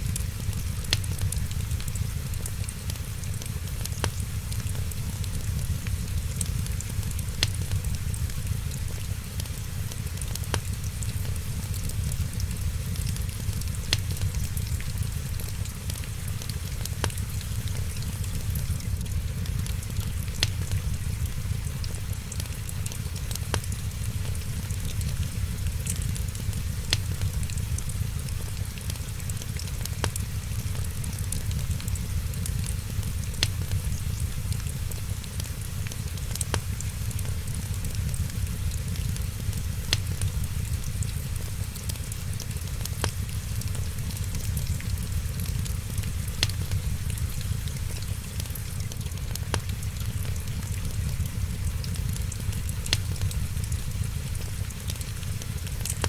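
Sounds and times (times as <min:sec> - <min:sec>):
rain hissing: 0:00.0 - 0:56.0
wood fire crackling: 0:00.0 - 0:56.0
fire pops: 0:00.1 - 0:56.0.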